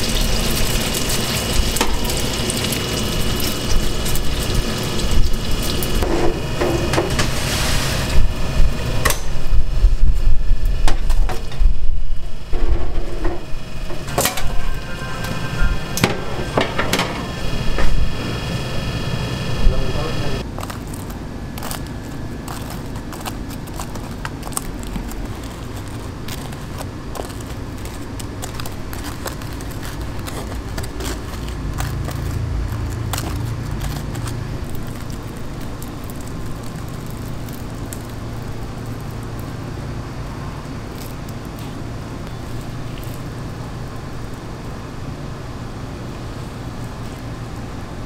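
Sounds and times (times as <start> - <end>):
street traffic rumble: 0.0 - 48.0.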